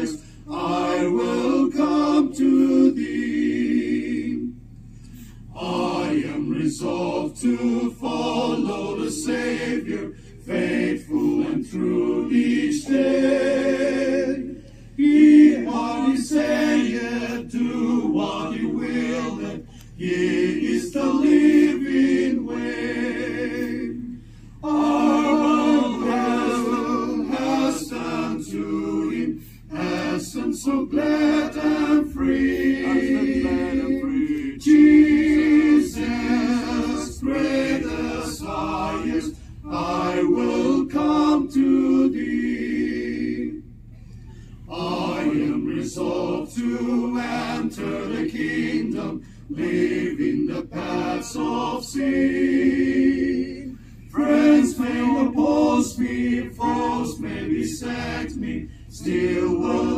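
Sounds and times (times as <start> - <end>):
men singing unaccompanied: 0.0 - 4.5, 5.6 - 24.0, 24.6 - 43.6, 44.7 - 59.9.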